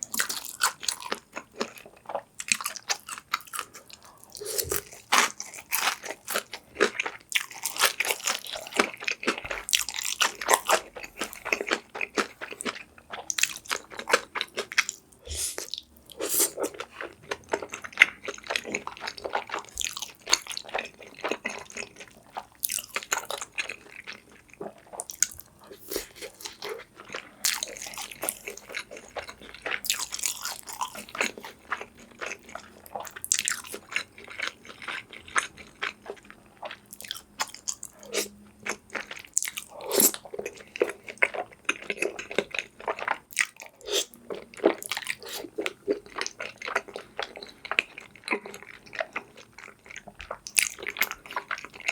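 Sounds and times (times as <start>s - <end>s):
person chewing and crunching food: 0.0s - 51.9s.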